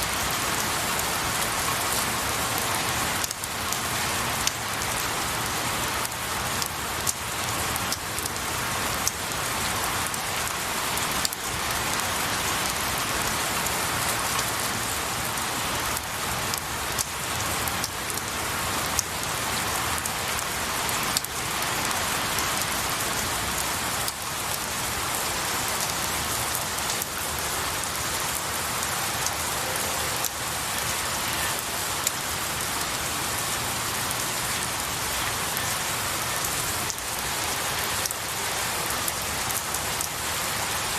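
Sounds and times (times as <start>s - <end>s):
rain on pine branches: 0.0s - 40.9s.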